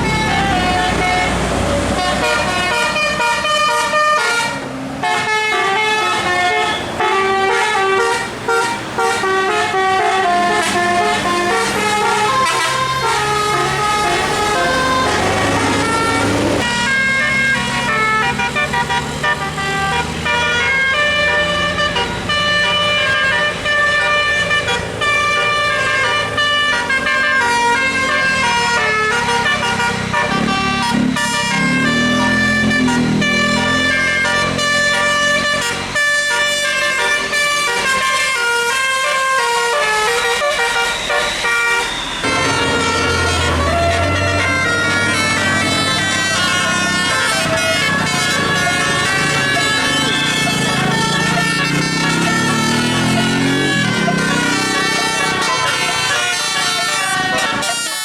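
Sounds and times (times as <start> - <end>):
multi-tone bus horn tune: 0.0 - 58.0.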